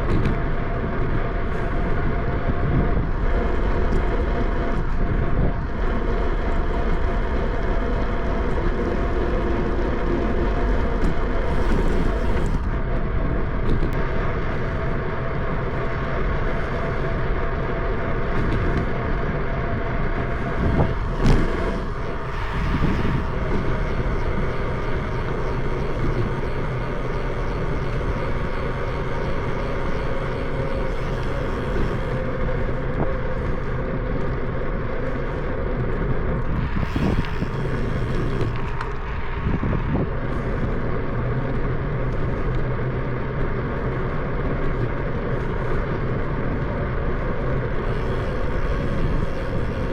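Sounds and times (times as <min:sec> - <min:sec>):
bicycle rolling noise: 0:00.0 - 0:49.9
wind rumble: 0:00.0 - 0:49.9.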